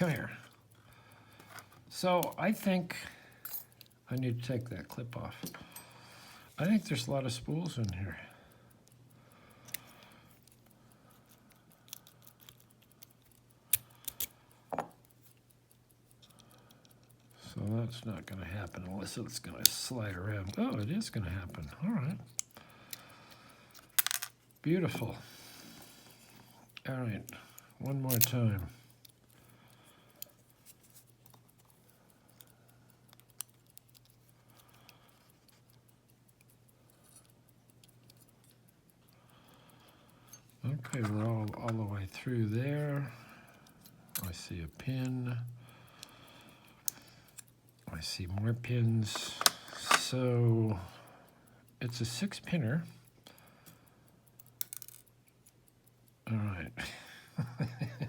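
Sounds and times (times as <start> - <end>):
metallic clicks of lock picking: 0.0 - 6.0, 6.6 - 56.3
steady low hum: 0.0 - 58.0.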